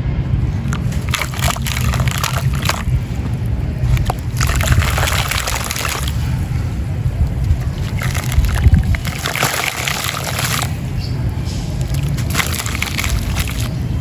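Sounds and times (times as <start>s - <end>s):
steady low rumble: 0.0s - 14.0s
material crackling and fizzing in water: 0.5s - 11.0s, 11.7s - 14.0s.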